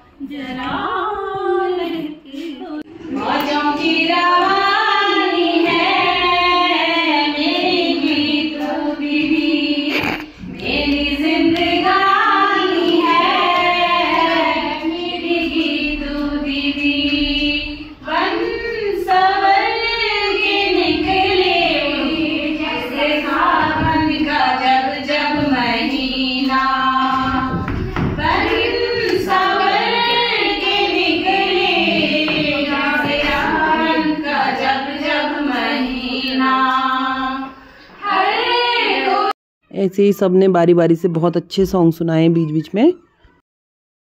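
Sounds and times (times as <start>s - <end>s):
women singing into a microphone: 0.0s - 39.3s.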